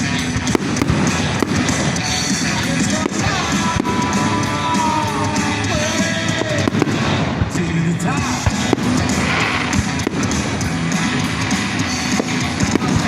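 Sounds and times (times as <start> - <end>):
fireworks bangs: 0.0 - 13.0
loud background music: 0.0 - 13.0.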